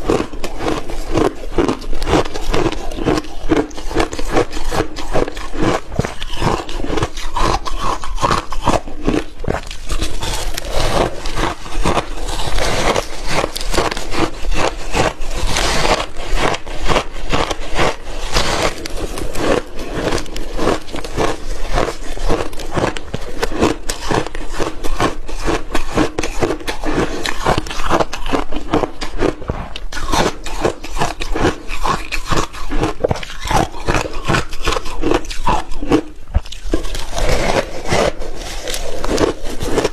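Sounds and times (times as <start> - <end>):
shaved ice being chewed: 0.0 - 39.9.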